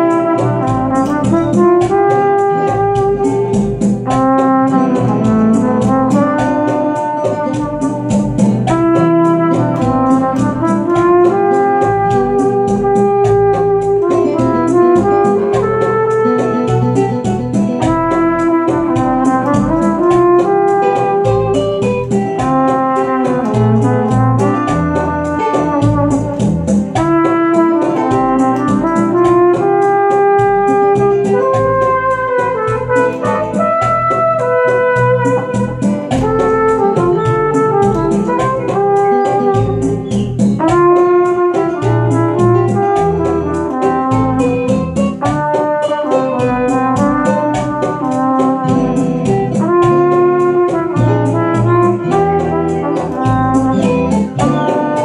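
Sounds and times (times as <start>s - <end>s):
backing track with steady beat: 0.0s - 55.0s
trumpet melody: 0.0s - 55.0s.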